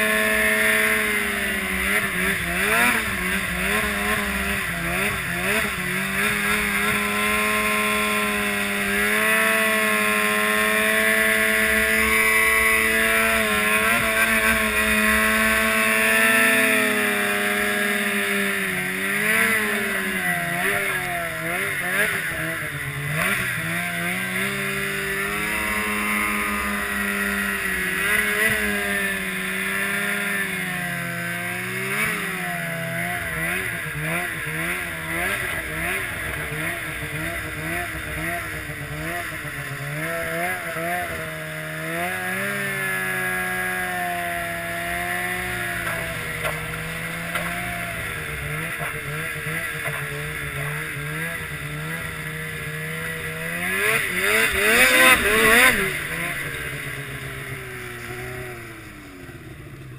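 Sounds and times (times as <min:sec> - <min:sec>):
snowmobile engine revving: 0:00.0 - 0:59.9
track and snow rushing: 0:00.0 - 0:59.9.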